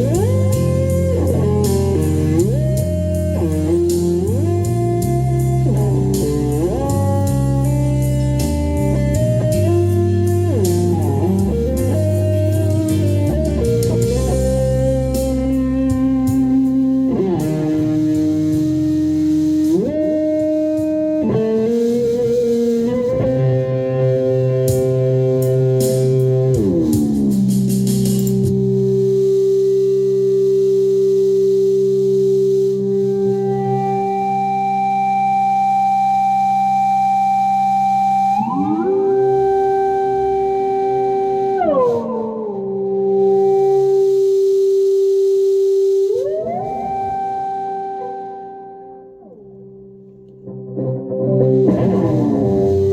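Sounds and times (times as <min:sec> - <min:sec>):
backing track: 0:00.0 - 0:52.9
electric guitar bending notes: 0:00.0 - 0:52.9.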